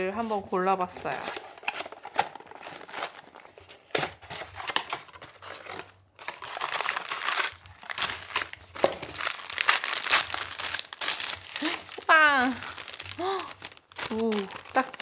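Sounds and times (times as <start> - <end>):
tissue paper crinkling: 0.0 - 15.0.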